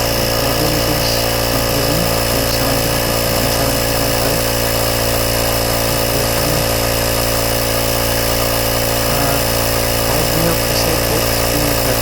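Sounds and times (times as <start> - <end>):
tyre inflator compressor running: 0.0 - 12.0.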